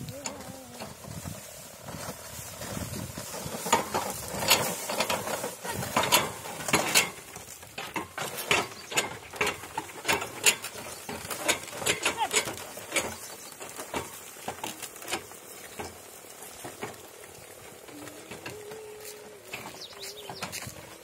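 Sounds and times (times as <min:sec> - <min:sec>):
cart wheels knocking and clicking: 0:00.0 - 0:21.0.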